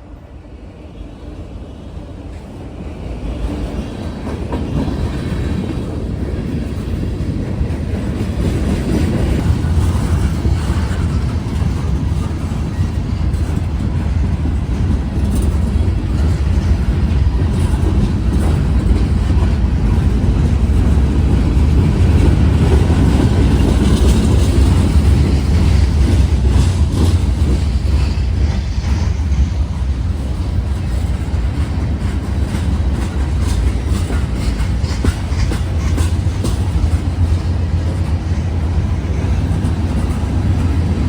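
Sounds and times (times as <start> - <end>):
freight train rumbling past: 0.0 - 41.0.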